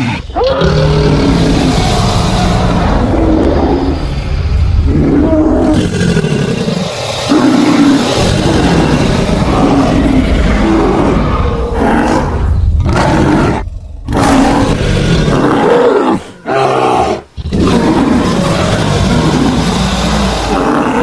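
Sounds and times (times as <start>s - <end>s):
monster roars and growls: 0.0s - 21.0s.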